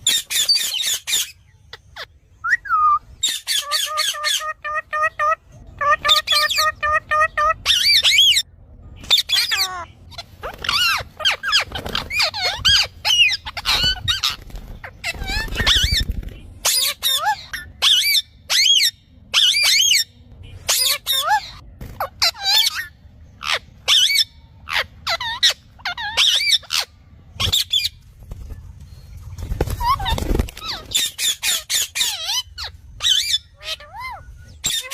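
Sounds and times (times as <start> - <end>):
parrot squeaky calls: 0.0 - 28.0, 29.7 - 34.9.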